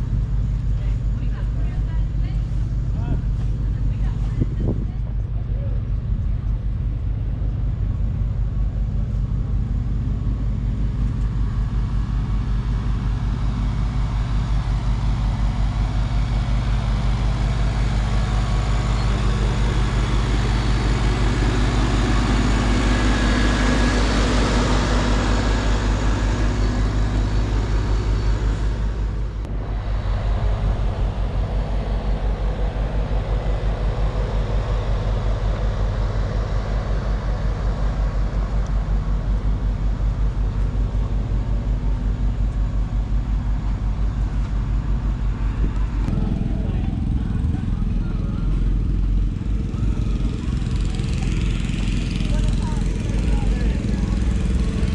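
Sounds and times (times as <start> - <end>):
engine running steadily: 0.0 - 54.9
broad rushing noise: 10.5 - 54.9.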